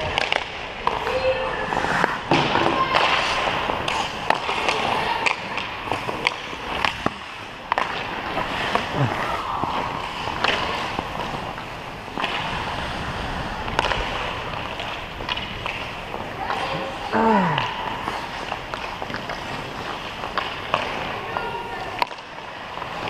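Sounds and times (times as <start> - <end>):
hockey stick hitting puck: 0.0 - 13.0, 13.6 - 23.0
skate blades scraping ice: 0.0 - 23.0.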